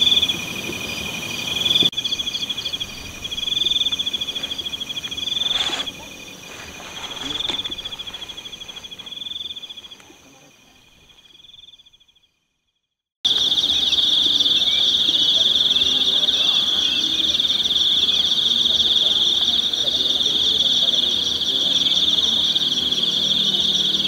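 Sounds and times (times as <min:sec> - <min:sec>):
crickets trilling: 0:00.0 - 0:12.4, 0:13.3 - 0:24.0
loud steady insect trill: 0:00.0 - 0:12.5, 0:13.2 - 0:24.0.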